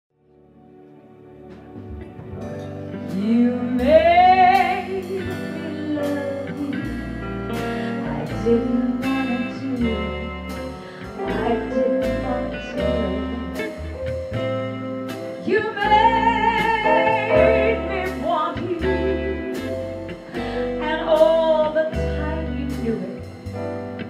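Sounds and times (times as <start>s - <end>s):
guitar accompaniment: 0.3s - 24.0s.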